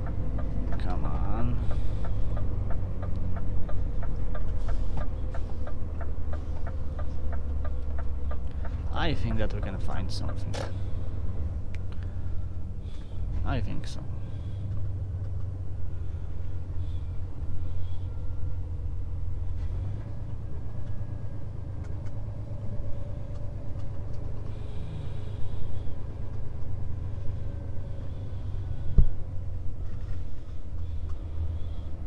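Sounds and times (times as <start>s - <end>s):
truck engine rumble from cab: 0.0s - 32.0s.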